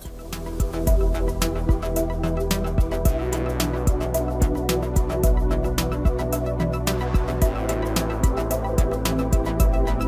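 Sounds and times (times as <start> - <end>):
electronic beat music: 0.0 - 10.0.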